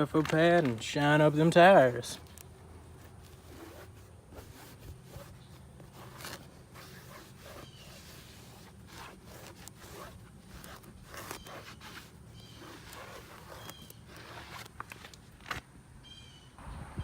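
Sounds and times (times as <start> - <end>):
rustling and scraping: 0.0 - 15.7.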